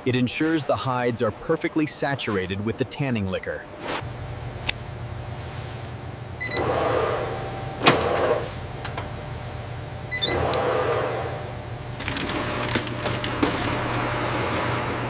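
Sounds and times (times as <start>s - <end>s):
rotating drums humming: 0.0s - 15.0s.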